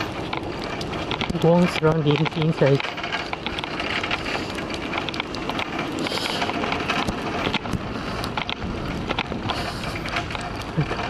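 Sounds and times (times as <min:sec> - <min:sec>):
bicycle clicks and rattles: 0:00.0 - 0:11.0
wind rushing over microphone: 0:00.0 - 0:11.0.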